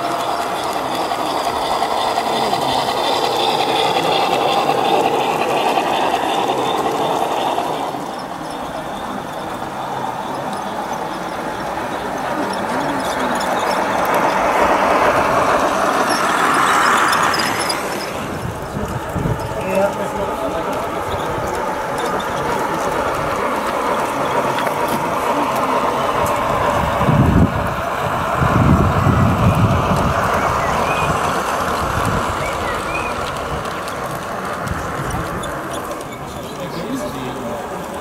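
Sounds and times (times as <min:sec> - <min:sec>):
model train wheels rumbling on rail: 0:00.0 - 0:38.0.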